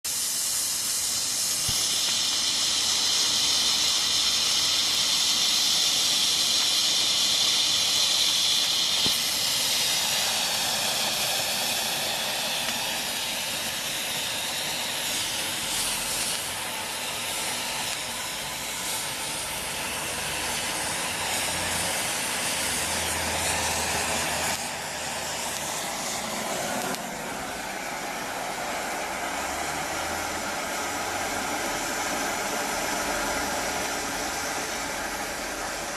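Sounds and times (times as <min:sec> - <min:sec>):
flare hissing: 0:00.1 - 0:35.9.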